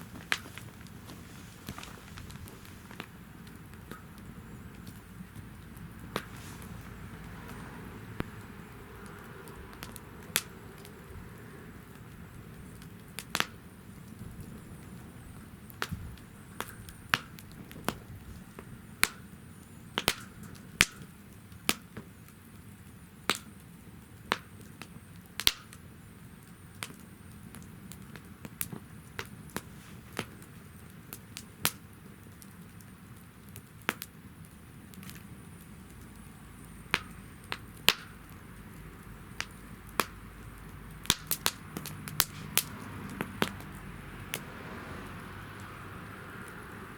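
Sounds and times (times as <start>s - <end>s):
low steady hiss: 0.0s - 46.9s
wood fire crackling and popping: 0.0s - 46.9s.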